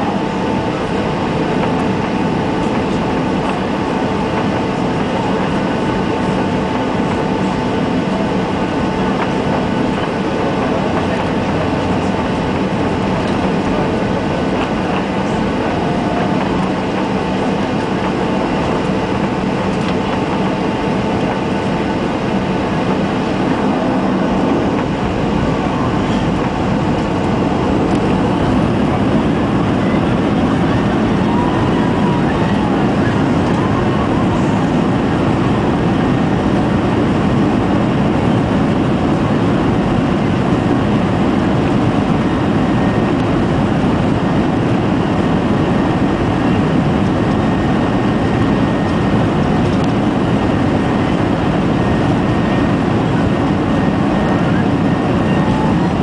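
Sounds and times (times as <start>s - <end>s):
airplane cabin engine noise: 0.0s - 56.0s.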